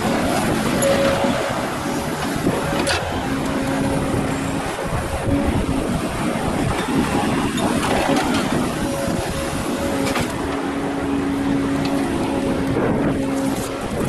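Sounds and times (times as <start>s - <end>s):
excavator diesel engine rumble: 0.0s - 14.0s.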